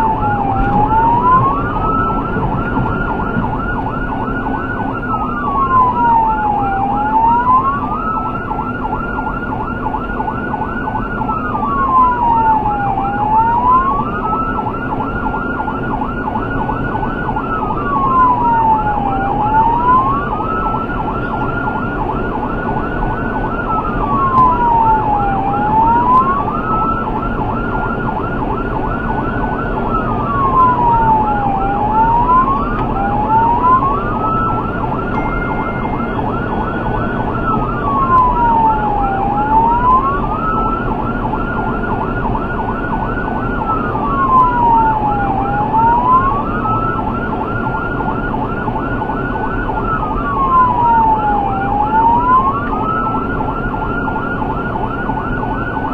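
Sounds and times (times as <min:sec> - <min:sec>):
car road and engine noise: 0:00.0 - 0:55.9
siren wailing: 0:00.0 - 0:55.9
warbling siren tone: 0:00.0 - 0:55.9.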